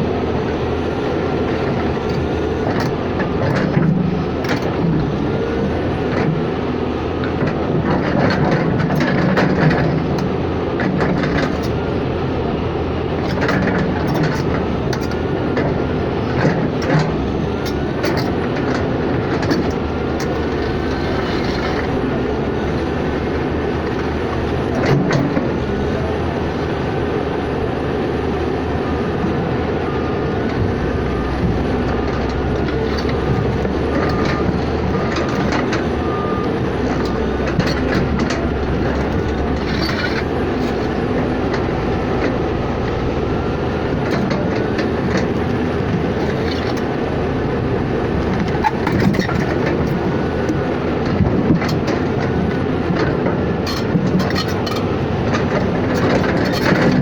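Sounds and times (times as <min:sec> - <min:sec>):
vehicle rumbling: 0:00.0 - 0:57.0.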